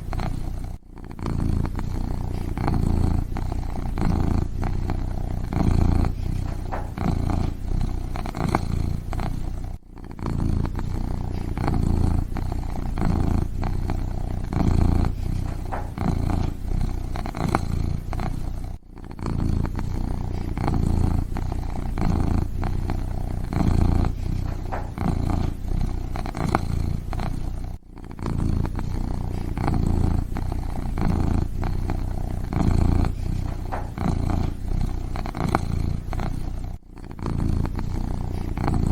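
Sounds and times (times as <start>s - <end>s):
kitten purring: 0.0s - 38.9s.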